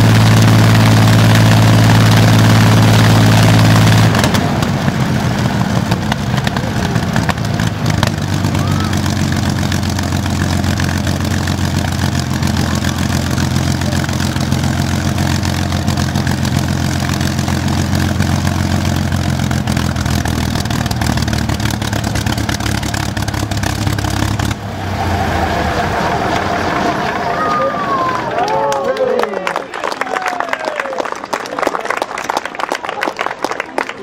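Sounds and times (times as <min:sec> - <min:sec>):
aero engine running: 0:00.0 - 0:28.8.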